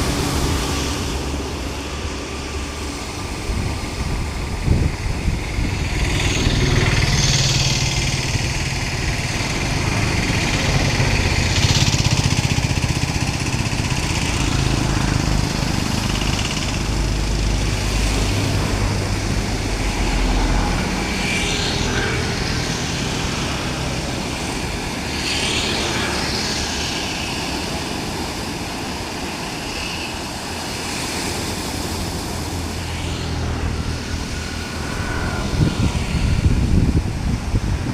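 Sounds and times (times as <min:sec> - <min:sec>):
boat engine humming: 0:00.0 - 0:37.9
hiss of wind or water: 0:00.0 - 0:37.9.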